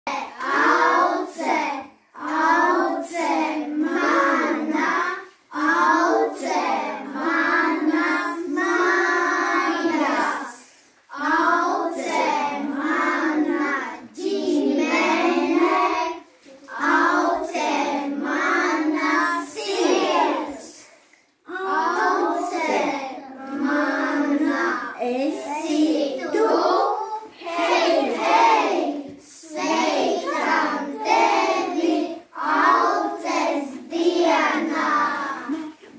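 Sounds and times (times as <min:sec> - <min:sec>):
young children singing: 0:00.0 - 0:35.9.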